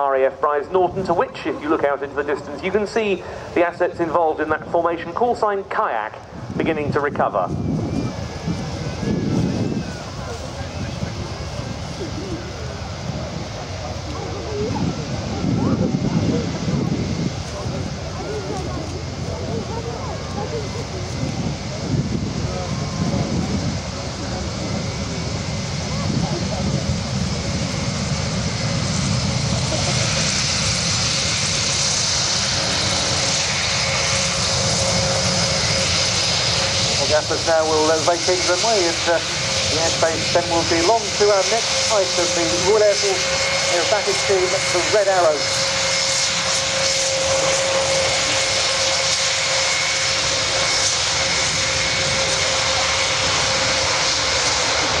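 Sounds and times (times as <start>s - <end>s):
high engine whine: 0.0s - 55.0s
turboprop engines droning: 0.0s - 55.0s.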